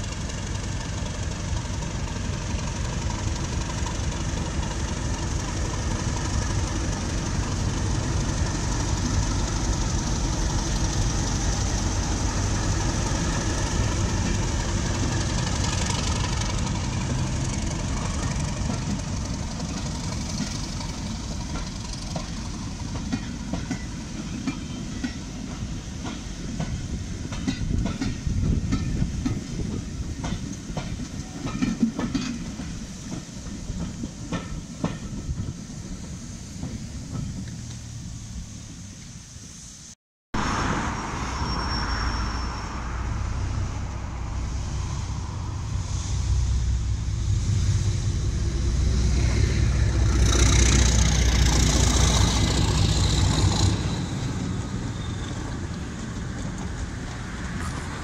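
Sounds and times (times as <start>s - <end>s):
train wheels clicking over rail joints: 0.0s - 37.9s, 48.3s - 58.0s
diesel locomotive engine running: 0.0s - 38.9s, 42.4s - 58.0s.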